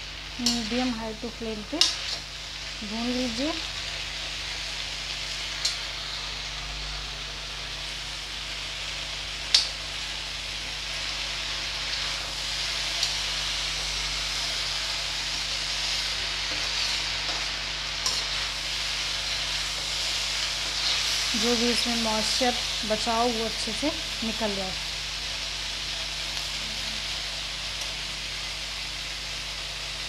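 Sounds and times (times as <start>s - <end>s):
okra sizzling in pan: 0.0s - 30.0s.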